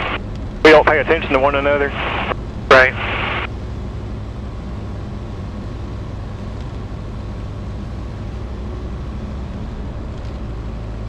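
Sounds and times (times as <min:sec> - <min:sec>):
light aircraft engine drone: 0:00.0 - 0:11.0.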